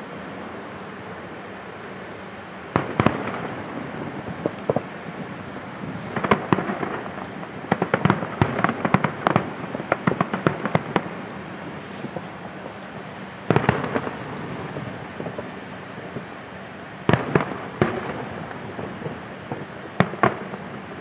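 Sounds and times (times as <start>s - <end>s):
fireworks bangs and crackles: 2.7s - 21.0s.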